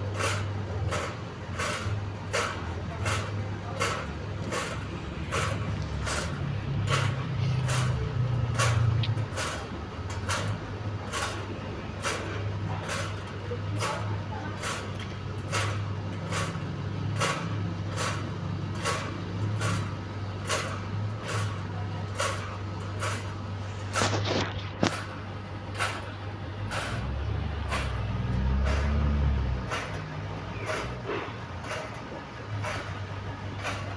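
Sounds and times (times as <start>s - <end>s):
fan turbine humming: 0.0s - 33.9s.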